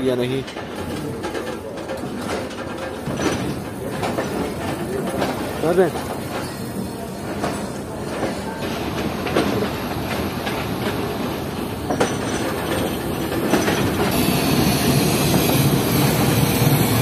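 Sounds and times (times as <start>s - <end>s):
clacks over rail joints: 0.0s - 14.3s
train wheels rolling on track: 0.0s - 17.0s.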